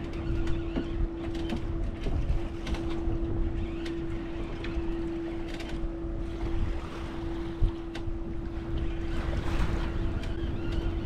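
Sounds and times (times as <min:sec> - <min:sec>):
boat engine humming: 0:00.0 - 0:11.0
wind rumbling on microphone: 0:00.0 - 0:11.0.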